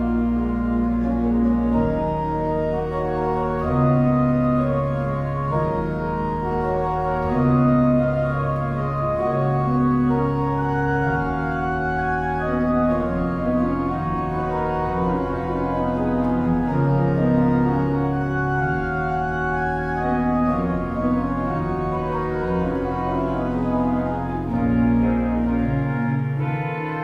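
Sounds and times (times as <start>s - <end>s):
church organ playing: 0.0s - 27.0s.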